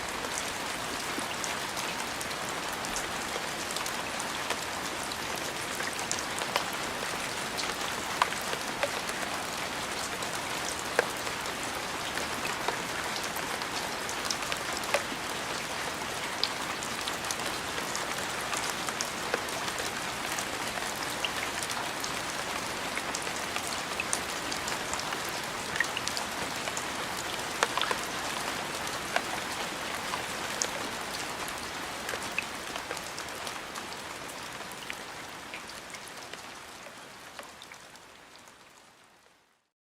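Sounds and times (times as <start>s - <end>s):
steady rain: 0.0s - 39.7s.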